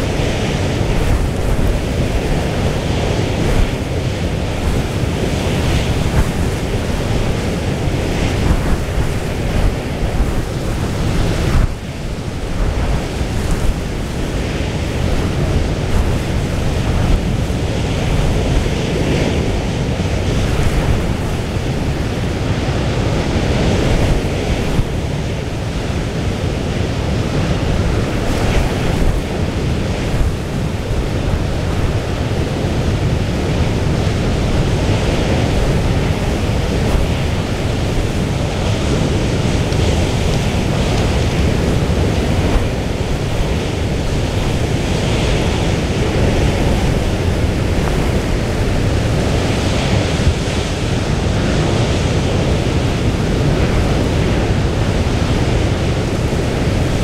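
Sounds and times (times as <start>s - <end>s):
rough sea rushing: 0.0s - 57.0s
wind blowing on microphone: 0.0s - 57.0s.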